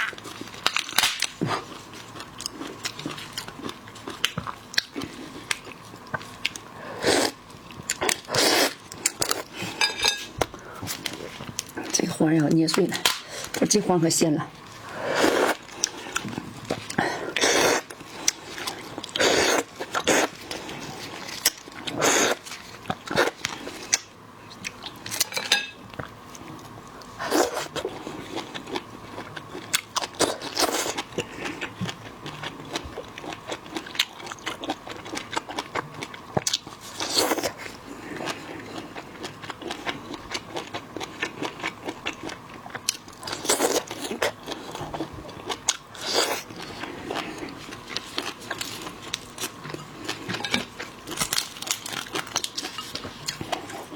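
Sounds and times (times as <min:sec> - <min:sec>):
person crunching and chewing seafood: 0:00.0 - 0:13.6, 0:14.6 - 0:53.9.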